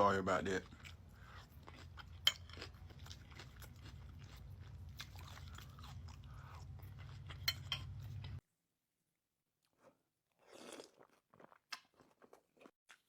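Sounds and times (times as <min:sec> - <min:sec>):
crunchy chewing: 0:00.4 - 0:08.4, 0:09.7 - 0:13.0.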